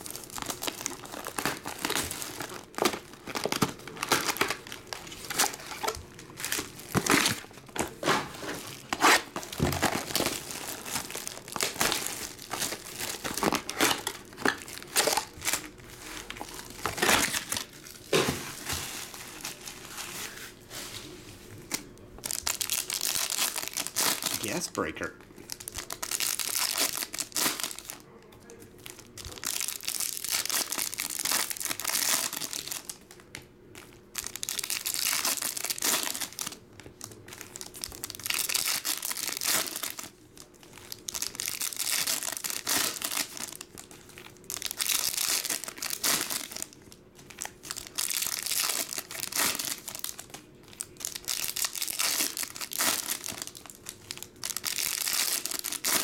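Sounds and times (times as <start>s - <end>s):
foil wrappers crinkling and tearing: 0.0s - 24.7s, 25.4s - 28.1s, 28.7s - 56.0s.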